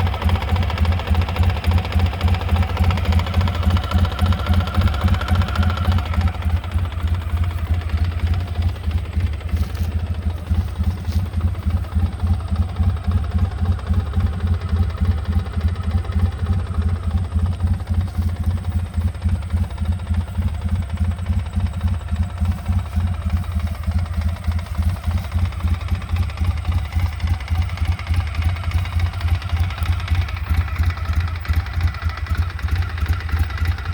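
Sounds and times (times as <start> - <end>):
engine idling with regular knock: 0.0 - 33.9.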